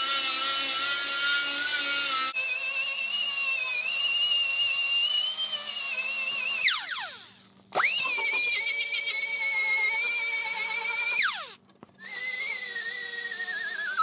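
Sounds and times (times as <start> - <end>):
rotary power tool whining: 0.0 - 14.0.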